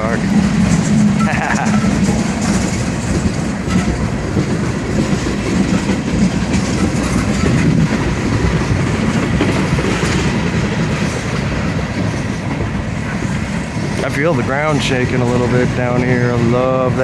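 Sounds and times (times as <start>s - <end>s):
freight train rumbling past: 0.0s - 17.0s
wheels clattering on rails: 0.0s - 17.0s.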